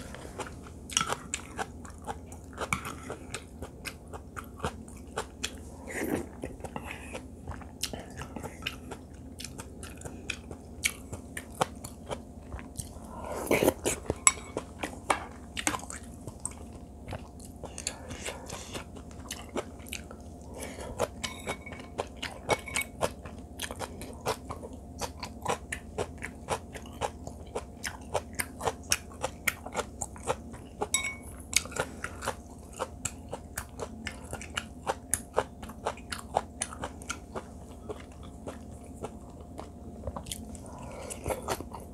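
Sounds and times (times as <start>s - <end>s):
person chewing food: 0.0s - 41.9s.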